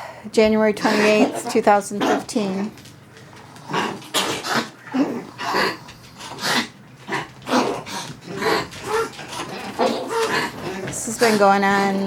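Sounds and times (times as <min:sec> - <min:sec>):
dogs coughing: 0:00.8 - 0:02.8, 0:03.4 - 0:11.8.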